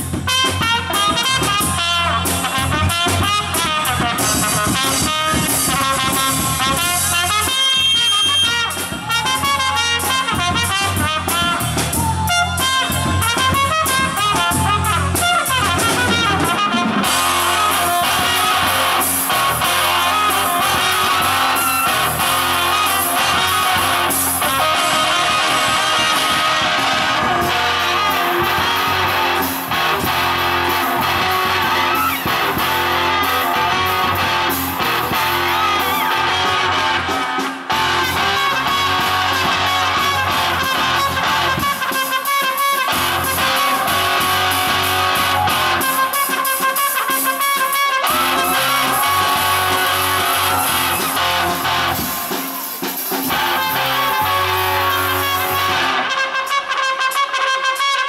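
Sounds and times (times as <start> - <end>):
bass line: 0.0 - 42.0, 42.8 - 46.3, 48.0 - 52.4, 53.2 - 56.1
electric guitar: 0.0 - 57.9
trumpet: 0.0 - 58.0.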